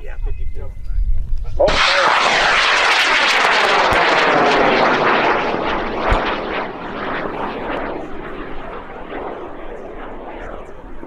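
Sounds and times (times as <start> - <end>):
rocket motor roaring: 1.6 - 11.0.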